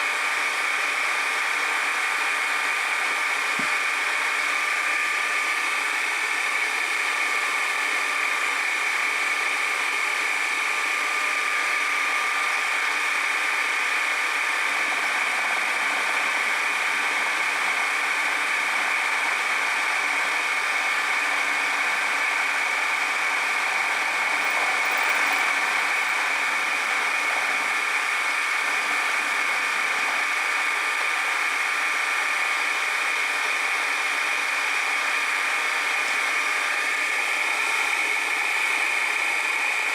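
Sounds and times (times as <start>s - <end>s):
workshop machine running: 0.3s - 39.9s.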